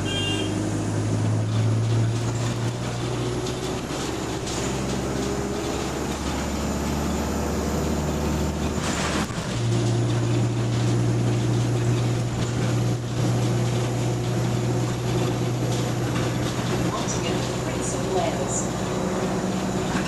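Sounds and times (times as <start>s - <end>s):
bus diesel engine: 0.0s - 20.0s.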